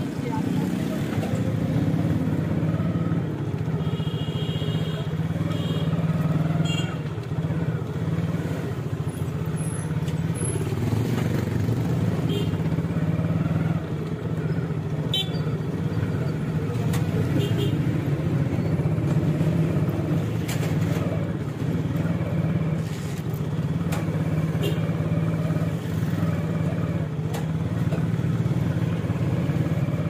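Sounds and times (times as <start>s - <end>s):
road traffic engine drone: 0.0s - 30.0s.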